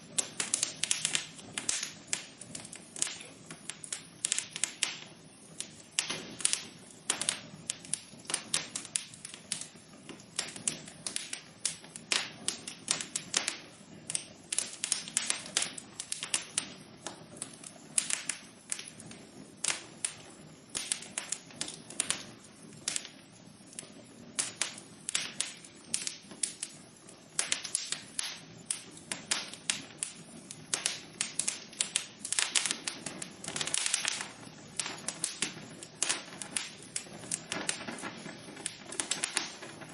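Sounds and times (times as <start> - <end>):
faint hiss: 0.0 - 39.9
fire crackling in a fireplace: 0.0 - 39.9.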